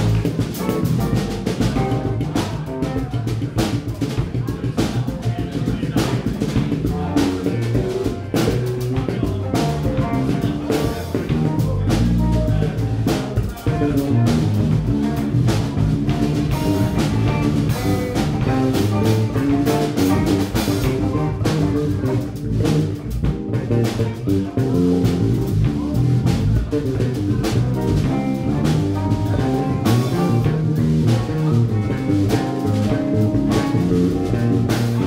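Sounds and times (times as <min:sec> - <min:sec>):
drum kit with rimshots: 0:00.0 - 0:35.0
electric bass: 0:00.0 - 0:35.0
electric guitar: 0:00.0 - 0:35.0.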